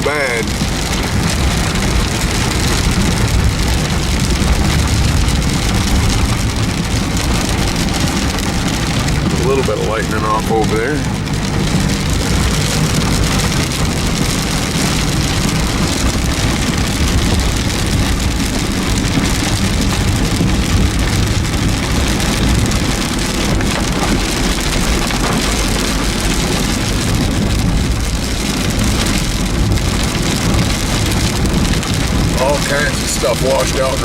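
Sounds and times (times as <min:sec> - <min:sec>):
car engine rumble: 0:00.0 - 0:34.0
heavy rain on a car: 0:00.0 - 0:34.0.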